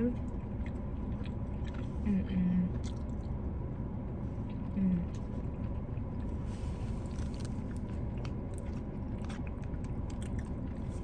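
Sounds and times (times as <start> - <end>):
close chewing and mouth clicks: 0.0 - 3.5, 4.4 - 11.0.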